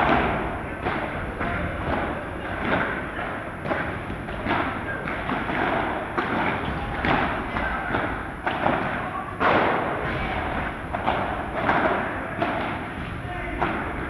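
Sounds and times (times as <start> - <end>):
padel balls struck by rackets: 0.0 - 14.0.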